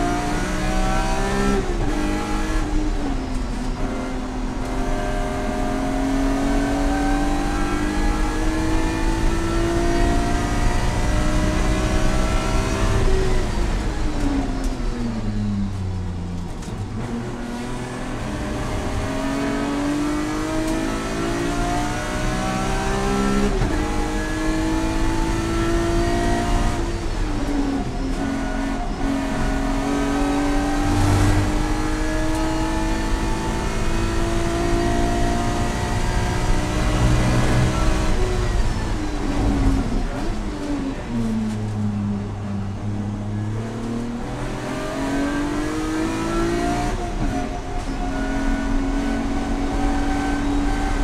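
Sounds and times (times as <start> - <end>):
race car engine revving: 0.0 - 15.2, 16.4 - 51.0.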